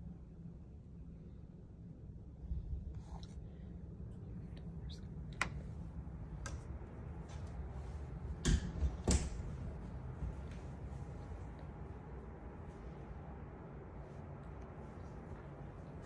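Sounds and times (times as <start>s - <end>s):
low rumble: 0.2s - 16.0s.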